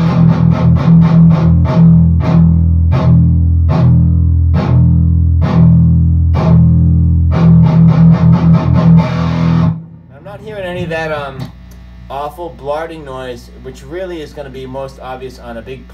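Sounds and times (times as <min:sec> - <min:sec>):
distorted electric guitar chugs: 0:00.0 - 0:15.9.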